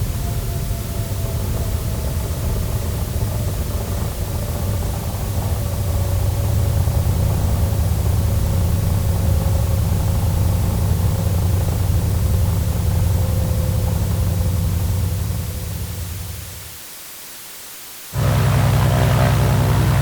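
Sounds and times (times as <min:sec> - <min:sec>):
airplane engine rumble: 0:00.0 - 0:16.8, 0:18.2 - 0:20.0.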